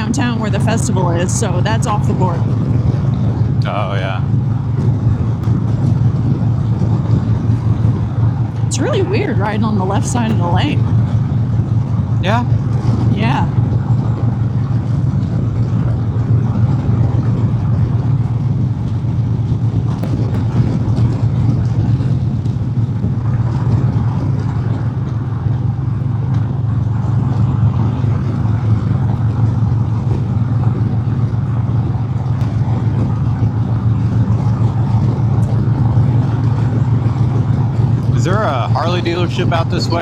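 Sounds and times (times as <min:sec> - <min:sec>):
motorcycle engine cruising: 0:00.0 - 0:40.0
wind noise: 0:00.0 - 0:40.0.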